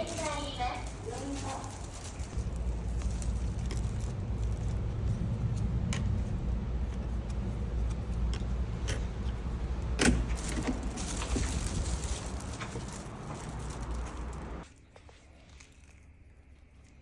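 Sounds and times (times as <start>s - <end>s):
road traffic rumble: 0.0s - 14.7s.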